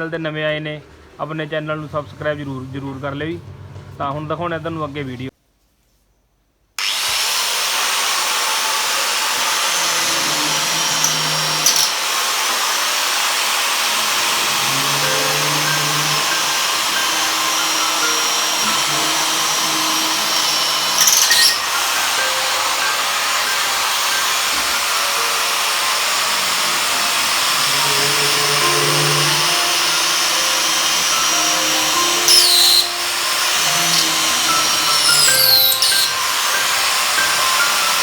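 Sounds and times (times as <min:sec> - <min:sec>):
power drill grinding through tile: 0:06.8 - 0:38.0.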